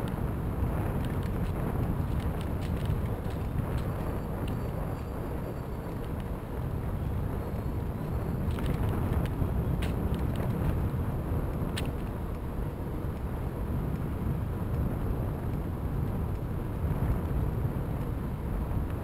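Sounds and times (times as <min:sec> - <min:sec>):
bicycle tyres rolling on gravel: 0:00.0 - 0:19.0
wind buffeting microphone: 0:00.0 - 0:19.0.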